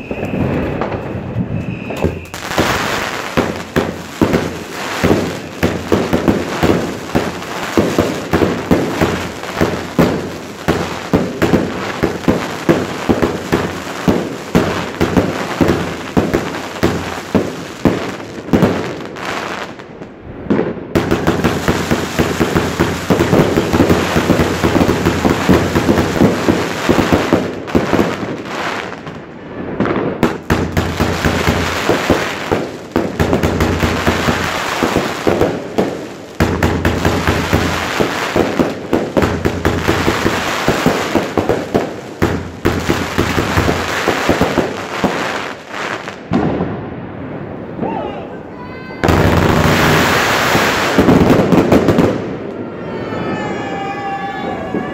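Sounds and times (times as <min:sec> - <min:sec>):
firework crackling and popping: 0:00.0 - 0:48.0, 0:48.7 - 0:54.9.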